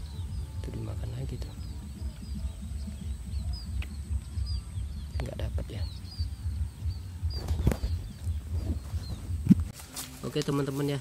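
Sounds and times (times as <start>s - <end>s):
low rumbling microphone noise: 0.0s - 9.9s
bird chirping: 0.0s - 11.0s.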